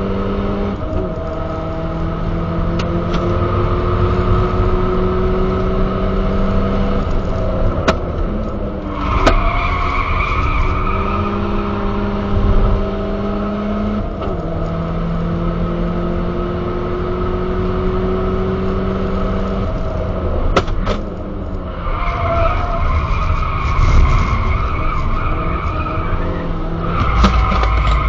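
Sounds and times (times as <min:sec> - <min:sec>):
car engine under load: 0:00.0 - 0:28.0.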